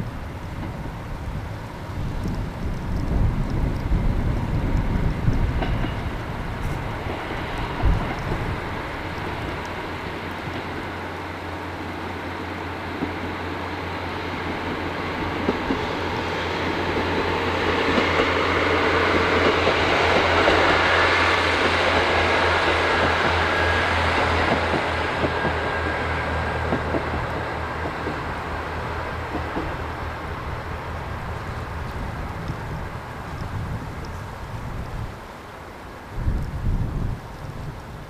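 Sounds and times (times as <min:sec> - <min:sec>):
diesel train passing: 0:00.0 - 0:38.0.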